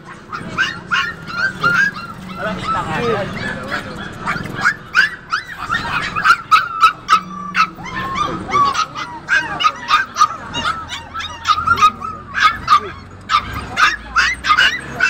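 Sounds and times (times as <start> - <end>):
puppies whimpering: 0.0 - 15.0
puppies yipping and barking: 0.0 - 15.0.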